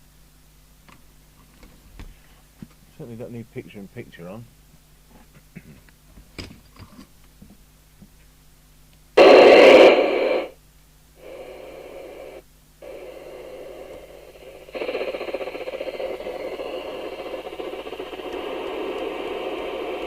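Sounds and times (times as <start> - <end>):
radio static hiss: 0.0 - 6.2, 8.4 - 20.0.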